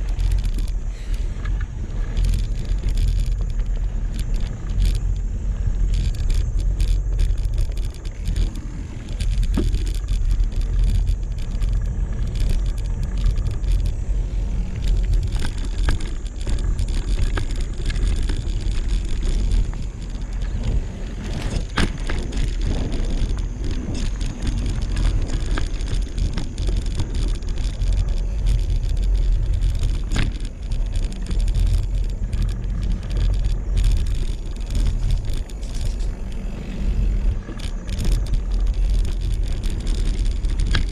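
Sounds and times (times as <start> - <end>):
bike chain and frame rattling: 0.0 - 40.9
bike tyres crunching on dirt: 0.0 - 40.9
low rumble on microphone: 0.0 - 40.9.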